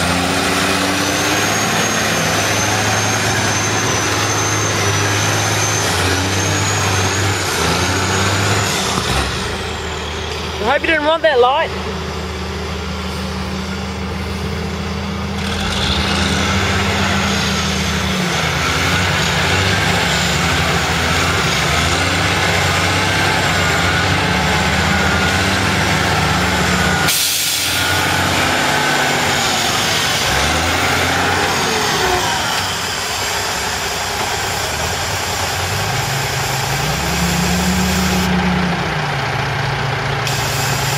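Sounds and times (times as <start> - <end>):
diesel truck engine running hard: 0.0 - 40.9.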